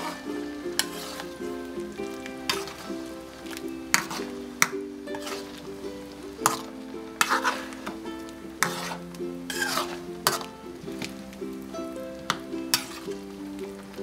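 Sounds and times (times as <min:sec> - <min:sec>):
background music: 0:00.0 - 0:14.0
wet scraping in pan: 0:00.0 - 0:14.0.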